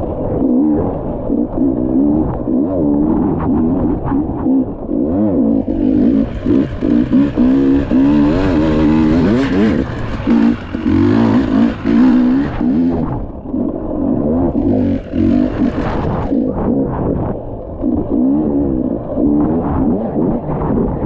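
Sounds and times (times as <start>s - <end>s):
motorcycle engine revving: 0.1s - 21.0s.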